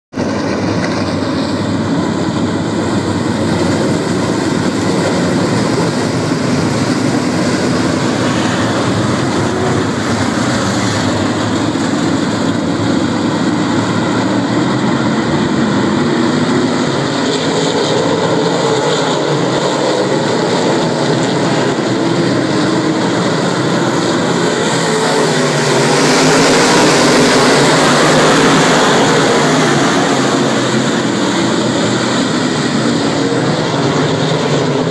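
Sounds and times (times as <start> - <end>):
race car engines droning: 0.1 - 34.9.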